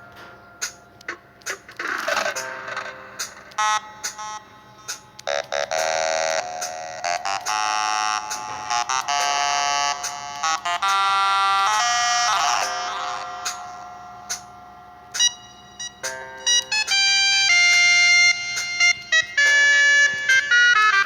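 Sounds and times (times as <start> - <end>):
bright buzzy synth keyboard: 0.0 - 21.0.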